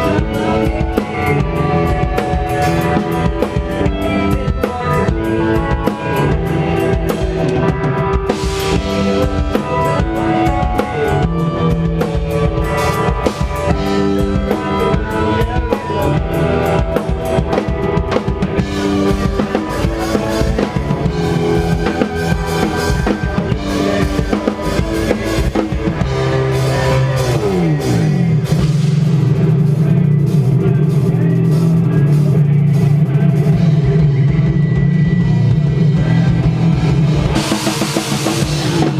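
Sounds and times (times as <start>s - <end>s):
drum kit: 0.0s - 38.9s
loud rock band playing: 0.0s - 38.9s.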